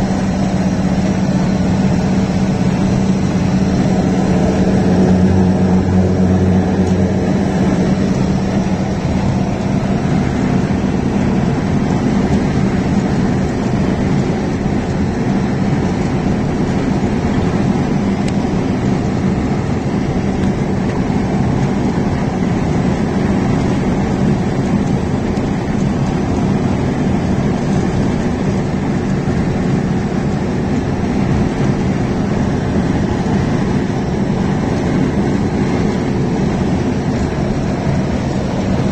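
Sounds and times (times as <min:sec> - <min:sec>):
road and wind noise: 0:00.0 - 0:38.9
truck engine hum: 0:00.0 - 0:38.9.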